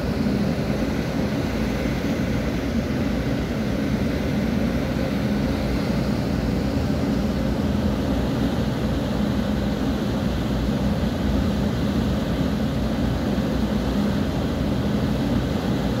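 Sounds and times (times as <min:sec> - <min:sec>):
rushing water and air: 0:00.0 - 0:16.0.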